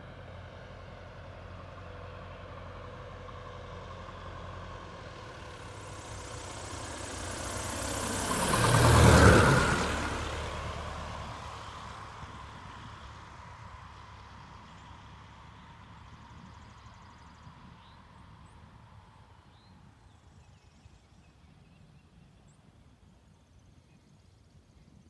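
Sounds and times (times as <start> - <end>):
light plane engine passing overhead: 0.0 - 25.0.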